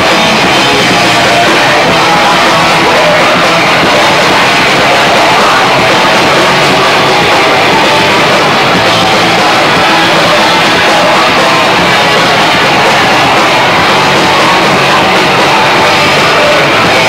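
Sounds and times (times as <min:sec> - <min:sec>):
live punk rock band: 0:00.0 - 0:17.0.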